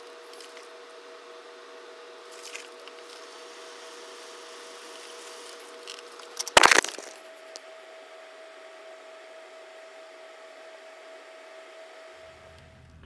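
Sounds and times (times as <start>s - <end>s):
ceiling fan whirring: 0.0s - 13.0s.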